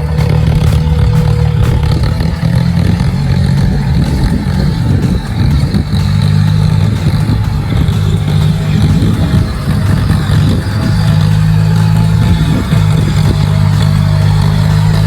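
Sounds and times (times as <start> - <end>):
clatter: 0.0 - 15.0
tractor engine droning: 0.0 - 15.0.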